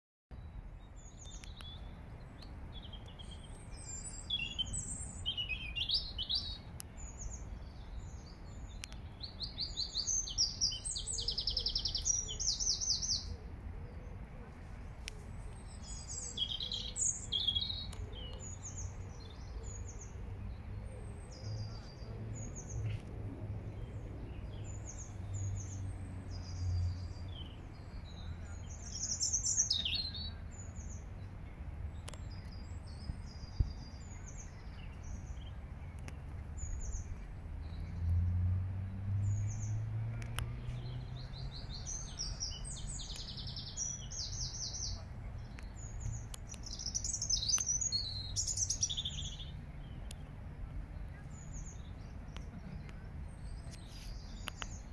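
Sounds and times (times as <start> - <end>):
robin singing: 0.3 - 14.3, 15.2 - 54.9.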